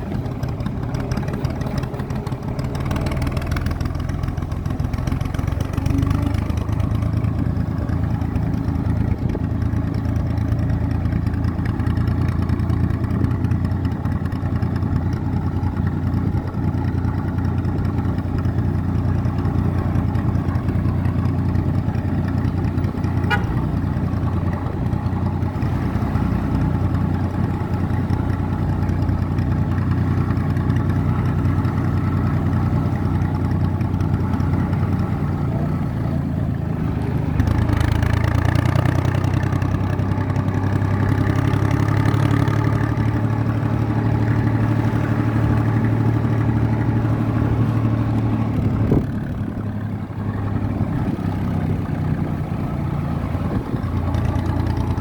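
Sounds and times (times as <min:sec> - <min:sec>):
engine knock: 0:00.0 - 0:55.0
tractor diesel engine running: 0:00.0 - 0:55.0.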